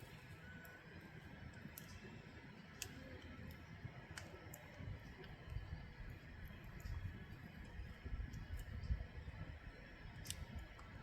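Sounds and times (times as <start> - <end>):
firewood crackles: 0.0 - 11.0
low rush of fire: 0.0 - 11.0.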